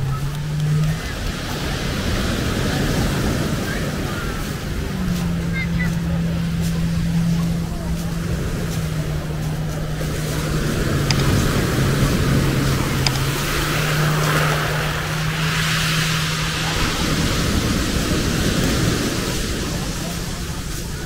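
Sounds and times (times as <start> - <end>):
engine hum: 0.0 - 21.0
waves coming ashore: 0.0 - 21.0.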